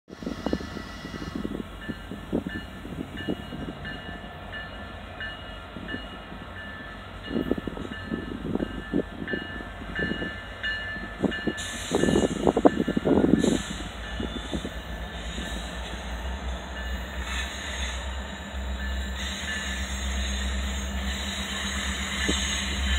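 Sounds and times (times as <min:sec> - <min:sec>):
diesel locomotives rumbling: 0:00.1 - 0:22.9.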